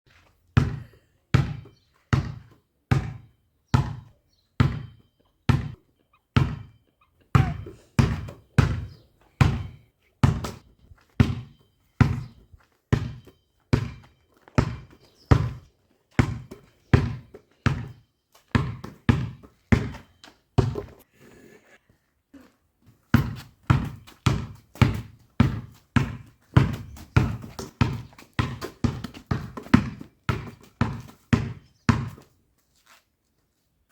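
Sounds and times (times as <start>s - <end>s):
ball bouncing with dull thuds: 0.6s - 21.0s, 22.9s - 32.2s.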